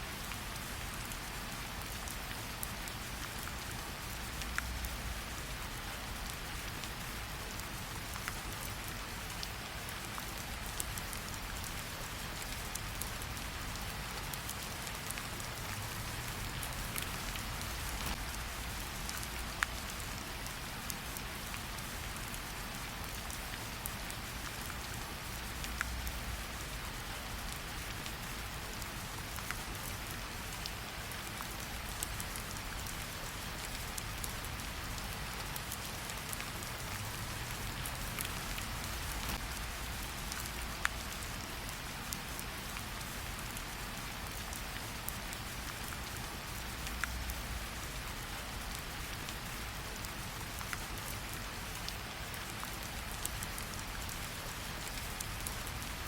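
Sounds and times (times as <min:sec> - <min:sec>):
rain falling: 0:00.0 - 0:56.0
campfire crackles: 0:00.2 - 0:56.0.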